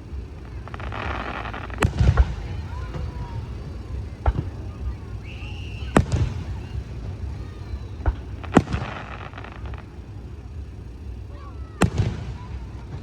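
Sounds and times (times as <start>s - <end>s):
fireworks bursting: 0.0s - 13.0s
fireworks crackling: 0.0s - 13.0s.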